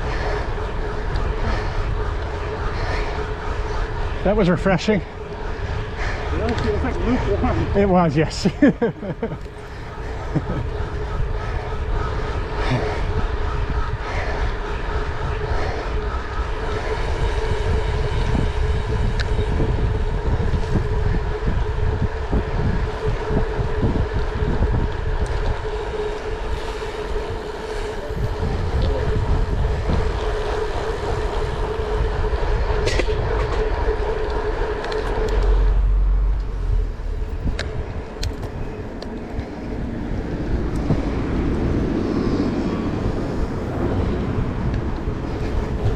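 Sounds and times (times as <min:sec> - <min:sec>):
droning hum: 0:00.0 - 0:45.9
vehicle rumble: 0:00.0 - 0:45.9.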